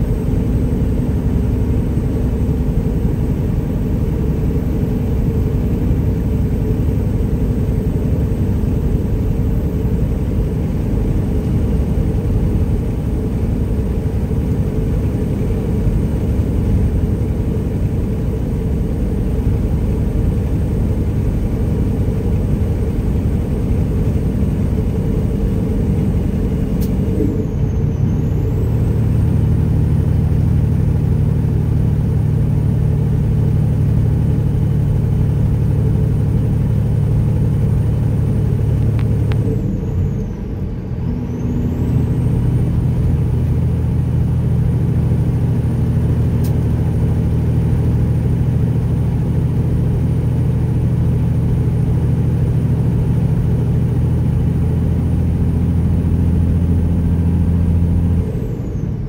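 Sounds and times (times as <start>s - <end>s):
truck engine deep drone: 0.0s - 59.0s.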